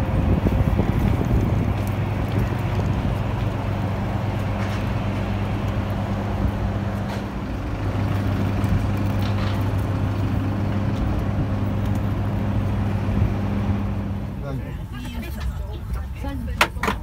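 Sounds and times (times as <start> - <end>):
rush of running machinery: 0.0 - 14.7
steady low hum: 0.0 - 16.6.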